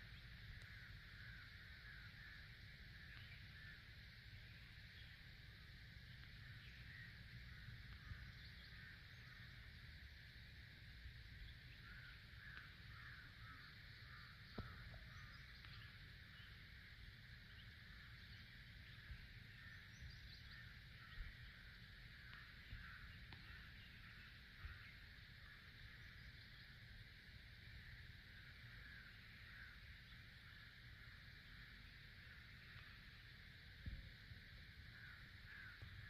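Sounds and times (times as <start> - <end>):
small birds chirping: 0.0 - 34.1.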